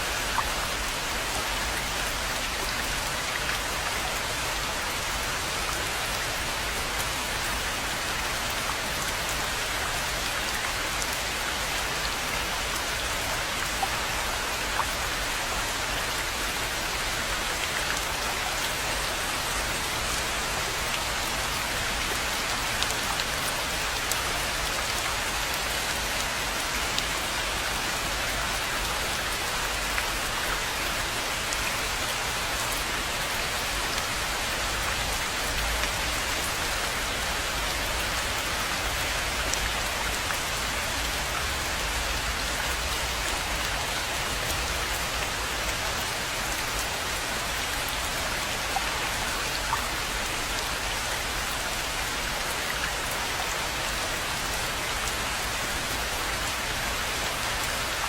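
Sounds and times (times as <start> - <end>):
rain hissing on pond: 0.0 - 58.0.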